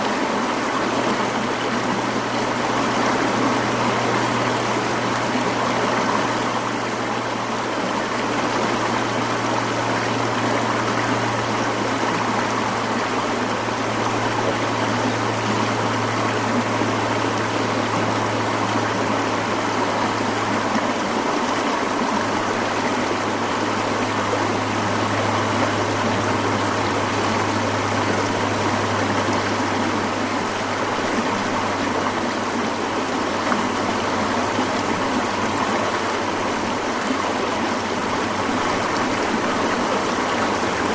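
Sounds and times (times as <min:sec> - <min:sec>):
stream rushing water: 0:00.0 - 0:40.9.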